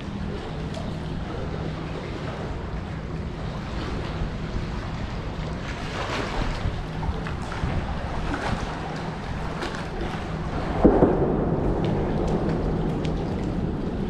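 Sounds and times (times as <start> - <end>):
faint steady hum: 0.0 - 14.0
wind blowing across microphone: 0.0 - 14.0.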